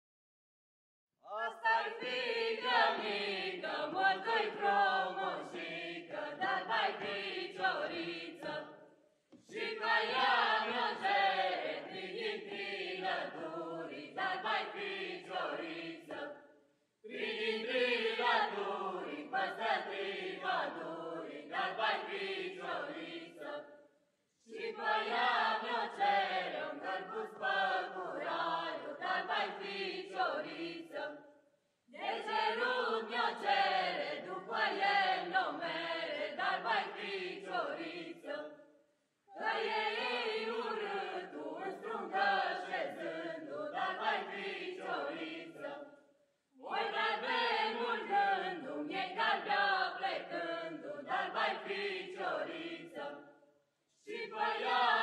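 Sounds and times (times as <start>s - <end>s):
group singing a carol: 1.2s - 55.0s.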